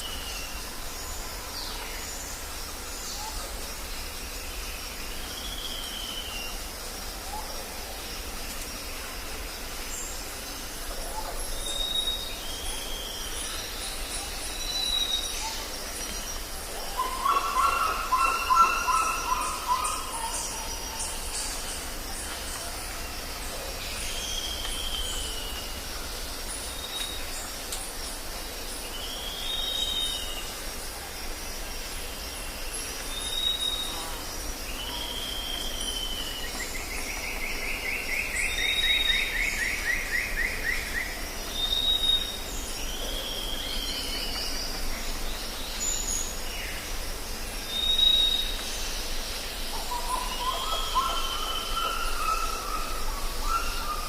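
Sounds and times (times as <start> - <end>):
high insect chorus: 0.0 - 54.0.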